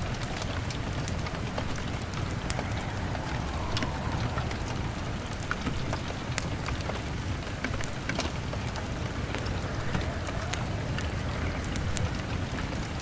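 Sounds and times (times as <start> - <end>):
crackling wood fire: 0.0 - 13.0
rain on a window: 0.0 - 13.0.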